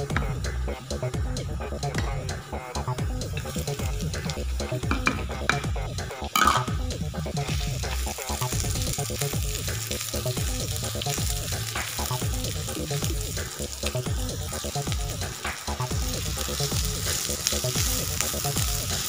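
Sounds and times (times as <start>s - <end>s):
onion and garlic sizzling in oil: 0.0s - 19.0s.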